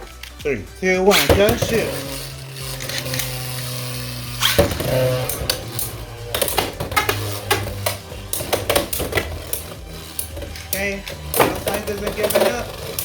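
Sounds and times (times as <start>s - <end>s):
spinning tops clacking together: 1.1s - 13.0s.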